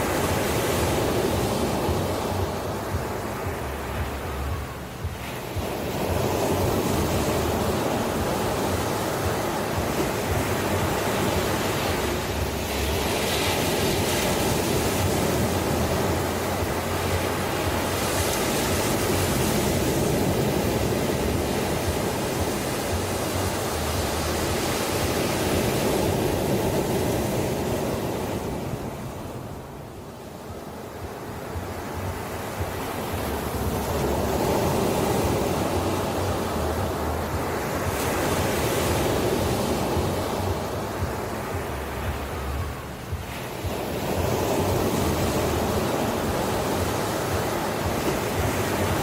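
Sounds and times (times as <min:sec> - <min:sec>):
ocean waves washing in: 0:00.0 - 0:49.0.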